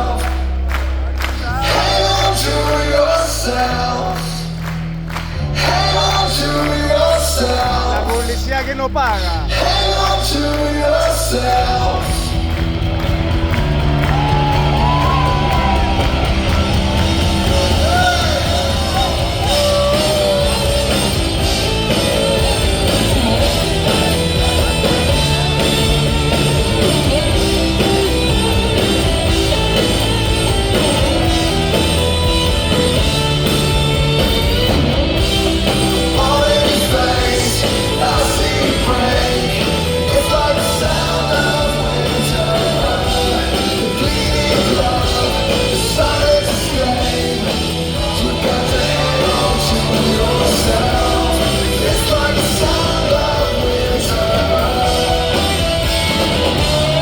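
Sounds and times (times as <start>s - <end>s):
crowd yelling: 0.0s - 4.4s, 5.2s - 57.0s
lead vocal singing: 0.0s - 57.0s
live rock band playing: 0.0s - 57.0s.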